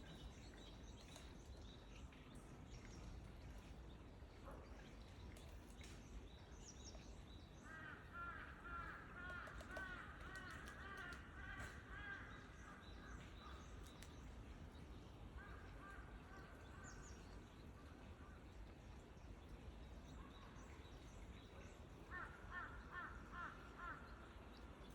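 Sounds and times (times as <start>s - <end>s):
steady outdoor hiss: 0.0s - 24.9s.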